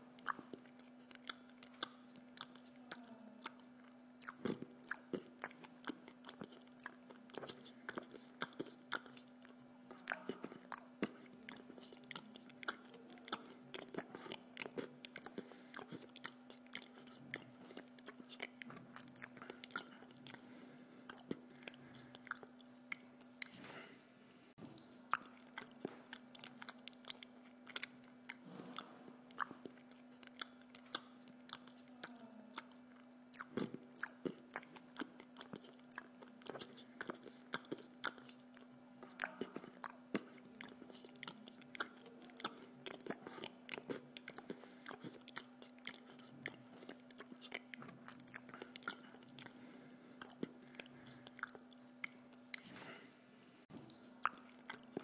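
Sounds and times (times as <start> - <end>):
person chewing food: 0.0 - 55.0
steady low hum: 0.0 - 55.0.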